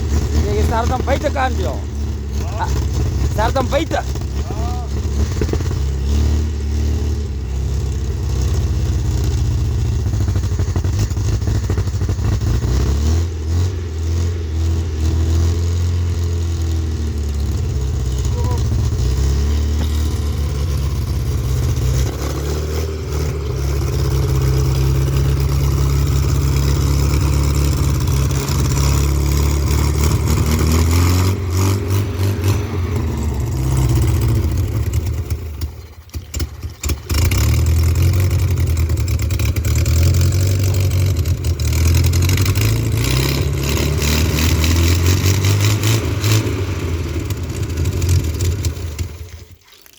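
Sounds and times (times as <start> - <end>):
petrol engine revving: 0.0 - 49.2.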